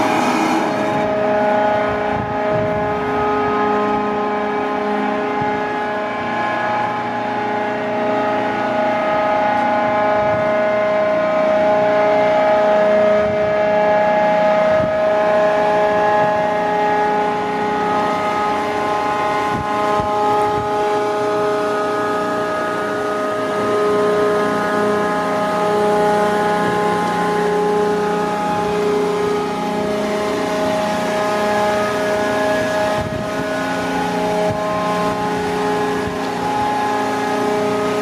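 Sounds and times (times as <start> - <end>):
crane machinery whine and drone: 0.0 - 38.0.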